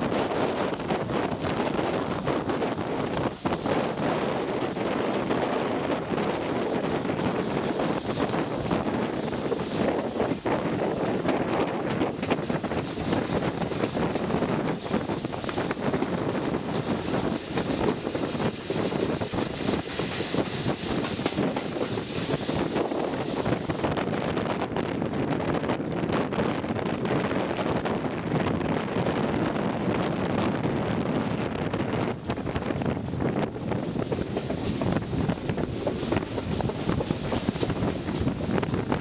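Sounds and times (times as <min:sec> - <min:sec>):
train rumbling along track: 0:00.0 - 0:39.0
wind buffeting microphone: 0:00.0 - 0:39.0.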